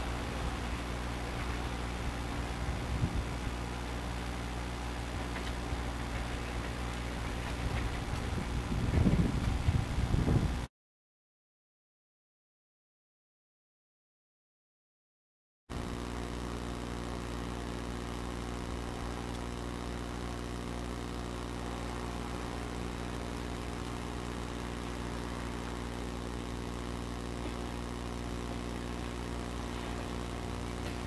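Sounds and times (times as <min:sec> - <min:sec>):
electric locomotive hum: 0:00.0 - 0:10.7, 0:15.7 - 0:31.0.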